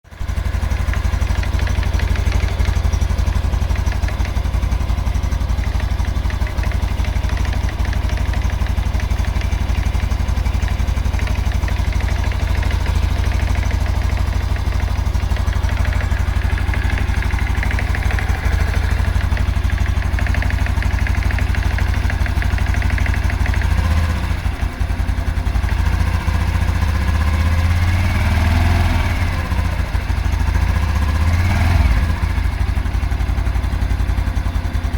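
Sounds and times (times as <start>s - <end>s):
motorcycle engine idling with knocking: 0.0s - 34.9s.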